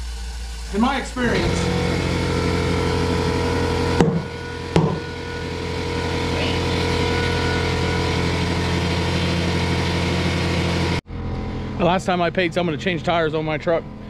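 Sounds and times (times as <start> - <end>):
motor humming: 0.0 - 11.9.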